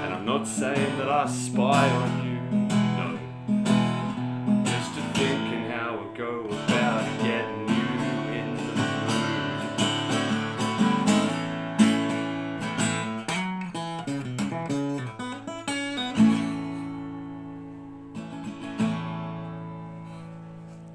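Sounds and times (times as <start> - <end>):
acoustic guitar playing: 0.0 - 20.9.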